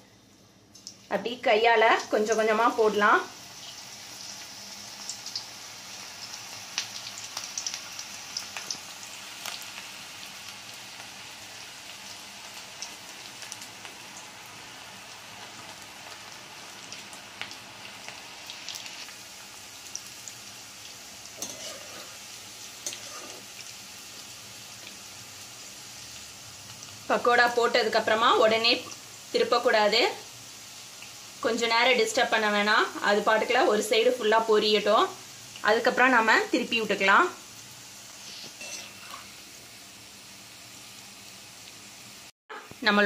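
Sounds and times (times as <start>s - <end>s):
batter deep-frying in hot oil: 0.0s - 43.0s.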